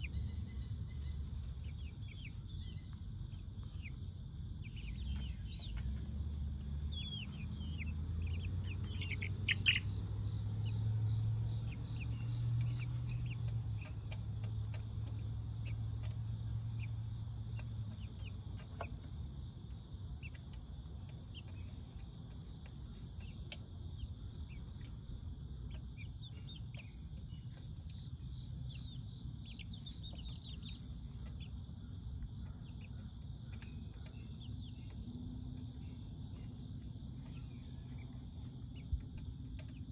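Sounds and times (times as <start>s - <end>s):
chicks cheeping: 0.0s - 39.9s
insects trilling: 0.0s - 39.9s.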